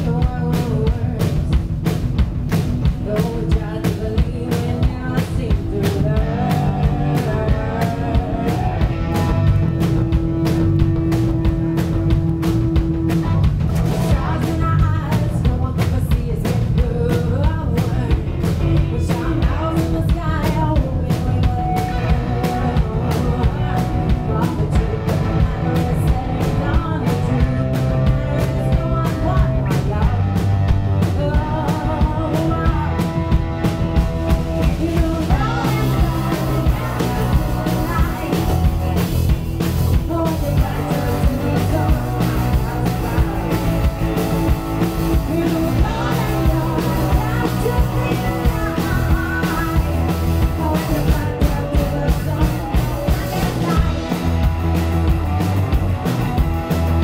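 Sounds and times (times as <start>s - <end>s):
woman singing: 0.0s - 1.7s, 2.9s - 9.4s, 14.0s - 54.2s
live rock band playing: 0.0s - 57.0s.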